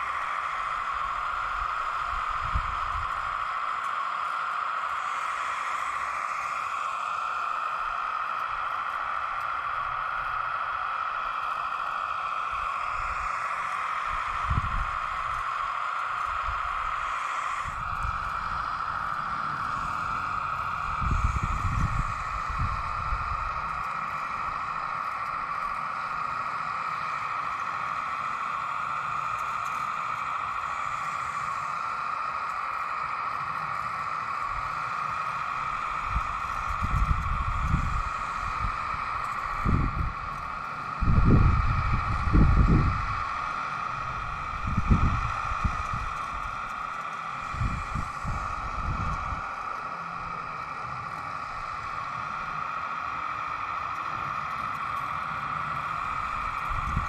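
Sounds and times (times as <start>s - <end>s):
hydraulic pump whining: 0.0s - 57.0s.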